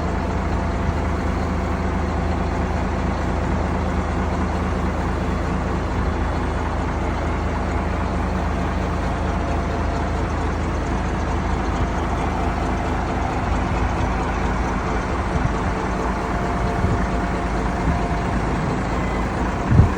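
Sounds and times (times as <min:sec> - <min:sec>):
truck diesel engine running: 0:00.0 - 0:19.9.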